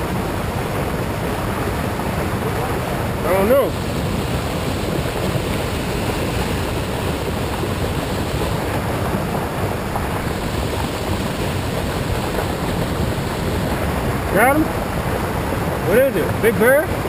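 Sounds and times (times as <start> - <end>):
water rushing from outflow: 0.0 - 17.0.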